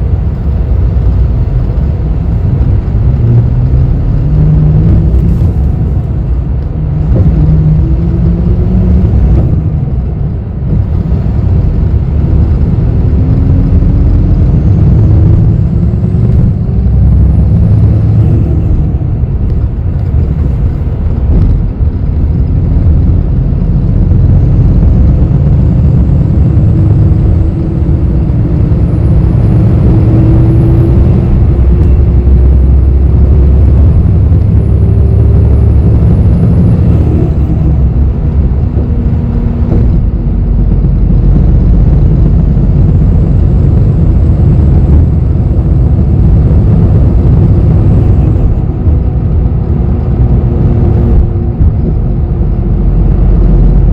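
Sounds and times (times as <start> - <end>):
bus engine and road rumble: 0.0 - 53.9
faint rising whine: 0.0 - 53.9.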